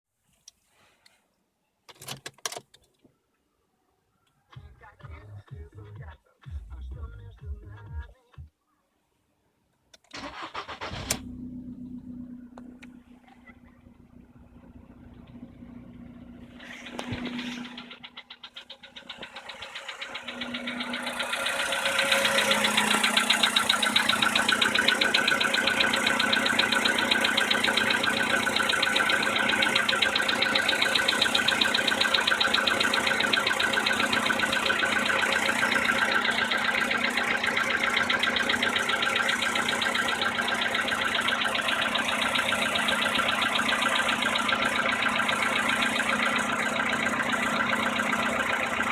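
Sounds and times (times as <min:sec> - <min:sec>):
car engine running: 0:04.6 - 0:08.1, 0:10.2 - 0:48.9.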